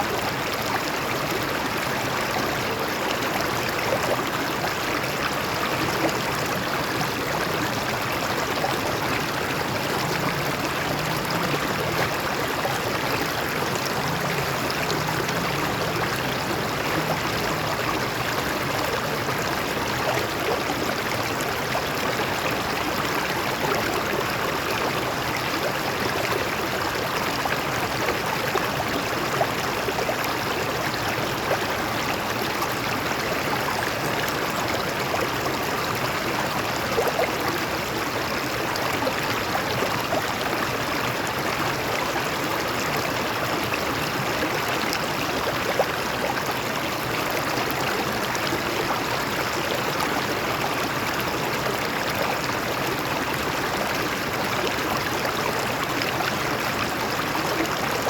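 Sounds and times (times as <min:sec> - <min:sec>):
stream water over rocks: 0:00.0 - 0:58.0.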